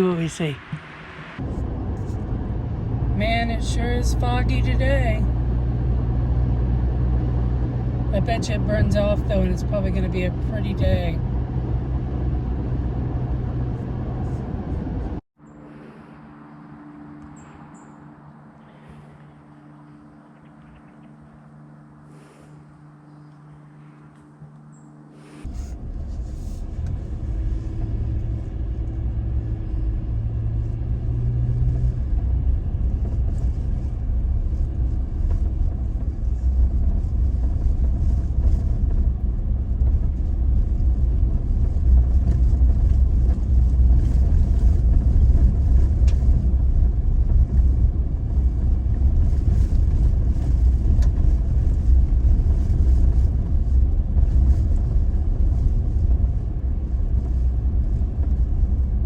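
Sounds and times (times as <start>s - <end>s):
pickup truck engine rumble: 0.0s - 15.2s, 25.4s - 59.0s
engine hum: 0.0s - 59.0s.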